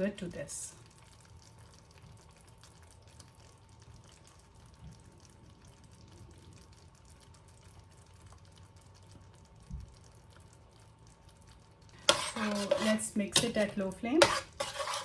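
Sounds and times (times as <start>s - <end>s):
faint sizzling curry in a pot: 0.0s - 15.0s
faint steady hum: 0.0s - 15.0s.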